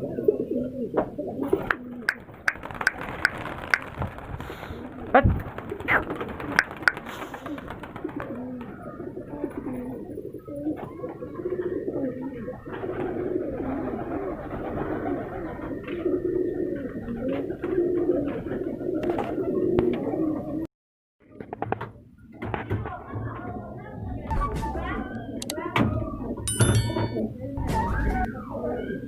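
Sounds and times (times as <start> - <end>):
pigeons cooing: 0.0 - 20.7, 23.0 - 29.0.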